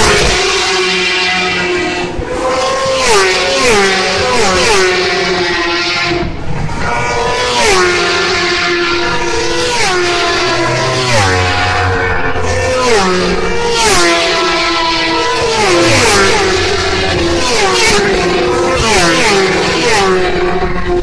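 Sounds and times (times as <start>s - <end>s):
racing motorbikes passing: 0.0s - 21.0s.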